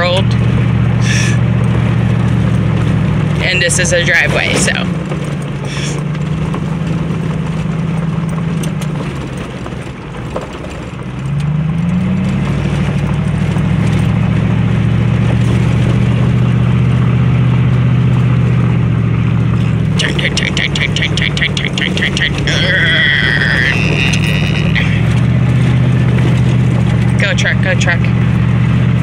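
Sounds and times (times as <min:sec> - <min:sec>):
truck engine running: 0:00.0 - 0:29.0
tyres on gravel: 0:00.0 - 0:29.0.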